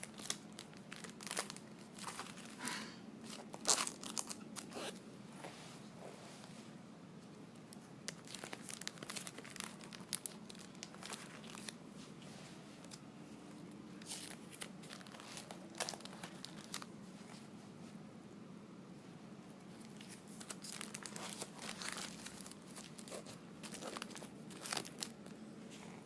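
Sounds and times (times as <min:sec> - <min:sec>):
crinkling and rustling: 0:00.0 - 0:06.6, 0:07.5 - 0:18.0, 0:19.5 - 0:26.0.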